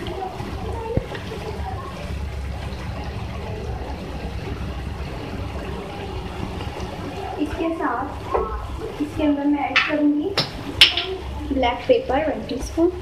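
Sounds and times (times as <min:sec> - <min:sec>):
low rumble of stove: 0:00.0 - 0:13.0.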